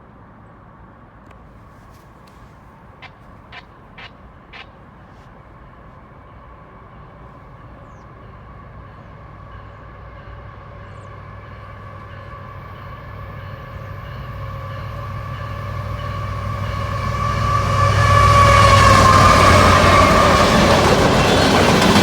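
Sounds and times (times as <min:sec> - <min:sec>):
diesel locomotive rumble: 0:01.4 - 0:22.0.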